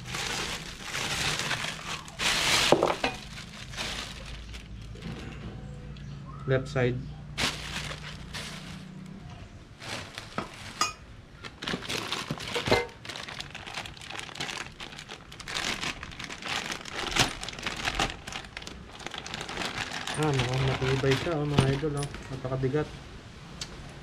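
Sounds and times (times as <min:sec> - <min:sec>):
plastic bag crinkling: 0:00.0 - 0:05.2, 0:07.3 - 0:22.4.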